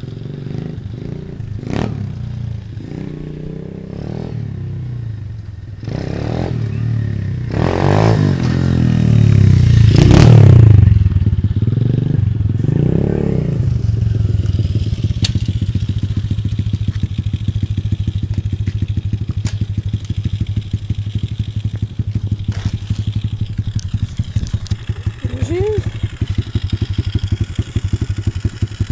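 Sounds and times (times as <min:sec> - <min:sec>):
motorbike engine revving and idling: 0:00.0 - 0:28.9.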